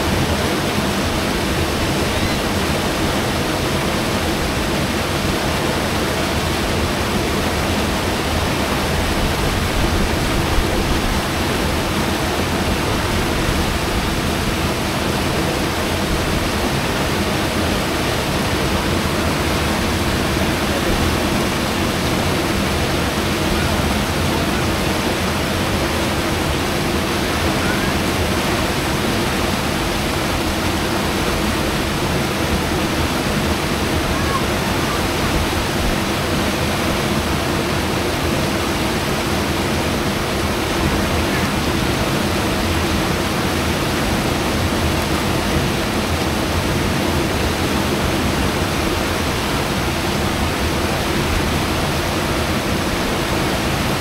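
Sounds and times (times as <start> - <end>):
water rushing over boulders: 0.0 - 54.0.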